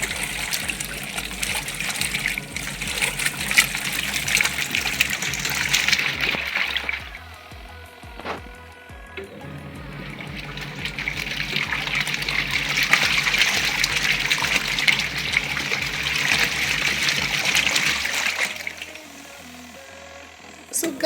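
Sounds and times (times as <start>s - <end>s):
water churning and splashing: 0.0s - 19.9s
washing machine motor hum: 0.0s - 21.0s.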